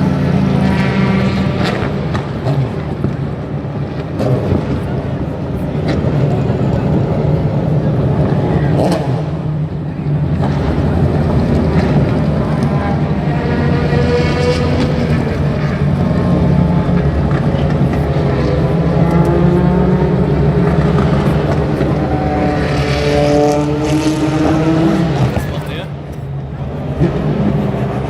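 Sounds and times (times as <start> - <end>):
race car engines rumbling: 0.0 - 28.0.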